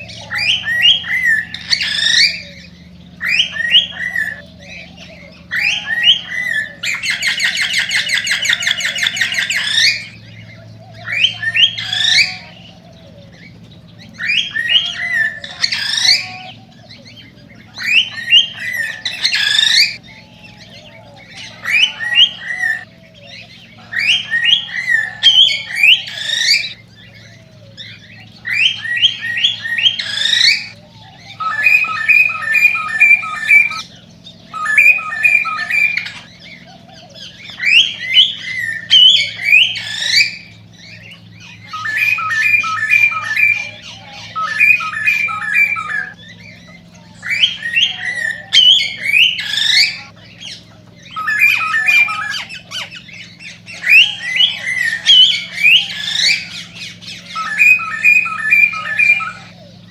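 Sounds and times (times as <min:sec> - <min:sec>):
cockatiel whistling song: 0:00.0 - 0:59.9.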